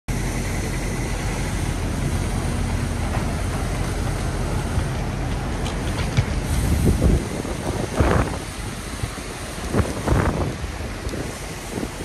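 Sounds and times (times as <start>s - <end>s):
traffic rumble: 0.1s - 12.0s.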